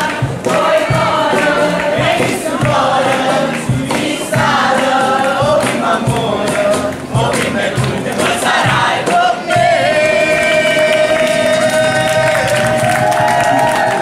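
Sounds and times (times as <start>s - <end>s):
crowd singing in chorus: 0.0s - 14.0s.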